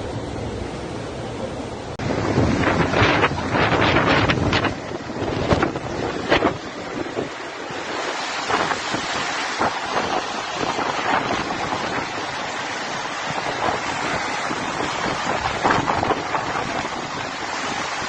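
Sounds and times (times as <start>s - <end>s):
floodwater rushing and splashing: 0.0s - 18.0s.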